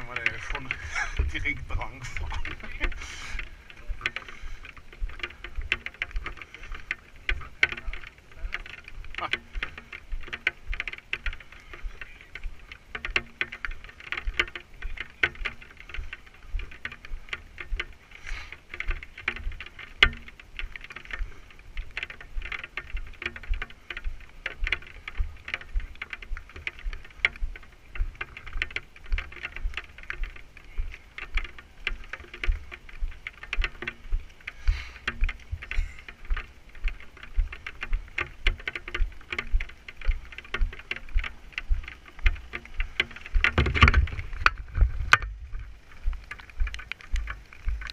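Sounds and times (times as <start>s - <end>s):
rain pattering: 0.0s - 47.9s.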